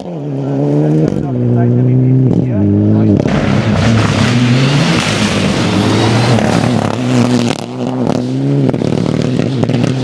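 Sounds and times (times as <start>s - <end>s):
rally car driving past: 0.0s - 10.0s.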